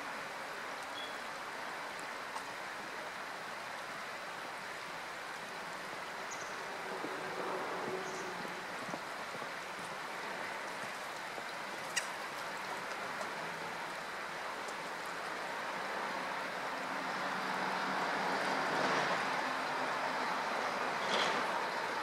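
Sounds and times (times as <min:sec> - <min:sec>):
steady outdoor background rush: 0:00.0 - 0:22.0.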